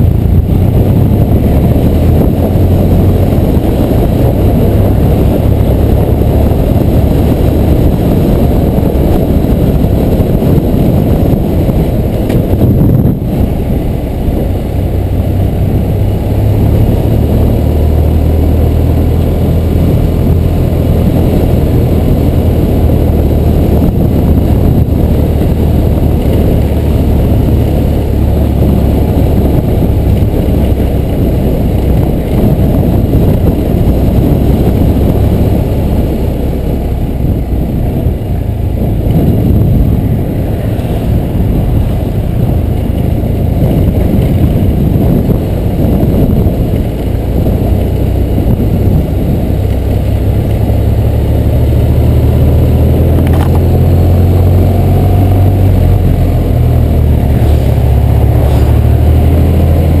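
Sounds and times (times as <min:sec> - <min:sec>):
motorcycle engine: 0:00.0 - 1:00.0
wind rumble on microphone: 0:00.0 - 1:00.0.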